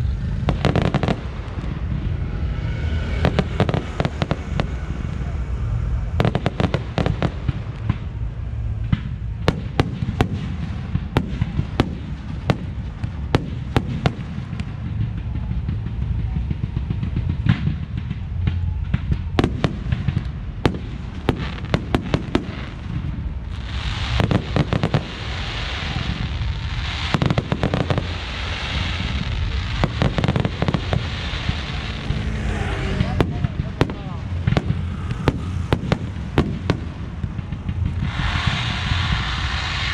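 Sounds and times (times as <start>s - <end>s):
crackling fireworks hiss: 0.0s - 39.9s
fireworks bangs: 0.0s - 39.9s
low rumble: 0.0s - 39.9s.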